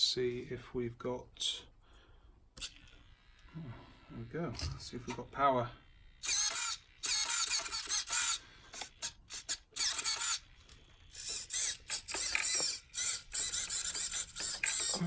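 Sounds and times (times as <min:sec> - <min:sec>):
servos whirring: 0:02.5 - 0:15.0.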